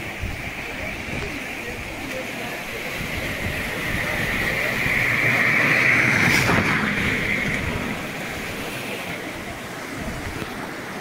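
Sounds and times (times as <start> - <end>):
flooded creek water rushing: 0.0 - 11.0.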